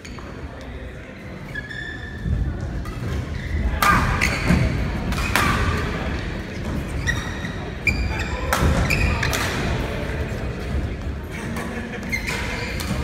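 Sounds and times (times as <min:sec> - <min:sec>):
shoes squeaking on court floor: 0:00.0 - 0:09.7, 0:11.9 - 0:13.0.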